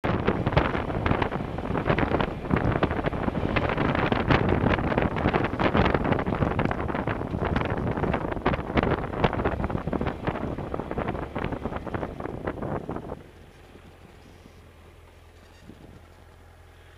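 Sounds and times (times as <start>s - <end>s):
wind buffeting microphone: 0.0s - 16.3s
motorcycle engine: 0.0s - 16.9s
tyres on loose gravel: 0.1s - 16.9s.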